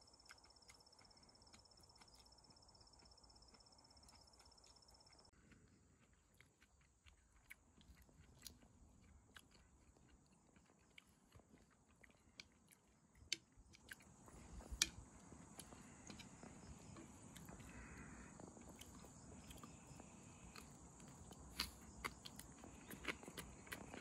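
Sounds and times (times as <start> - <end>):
quiet chewing and biting food: 0.0 - 24.0.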